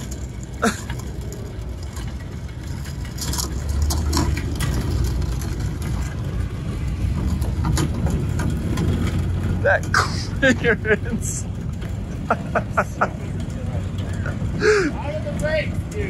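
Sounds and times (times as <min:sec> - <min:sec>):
truck engine running: 0:00.0 - 0:16.0
wheels scraping on pavement: 0:00.0 - 0:16.0.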